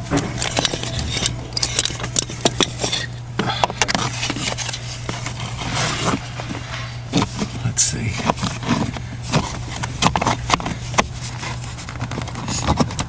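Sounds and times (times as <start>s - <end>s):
plastic parts scraping and clicking: 0.0s - 13.0s
steady low hum: 0.0s - 13.0s.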